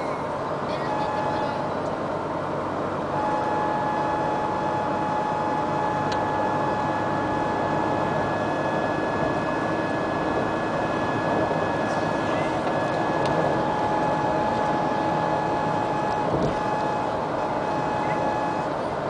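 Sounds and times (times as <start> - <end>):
car road and engine noise: 0.0 - 19.0
steady high two-pitch tone: 3.1 - 18.8.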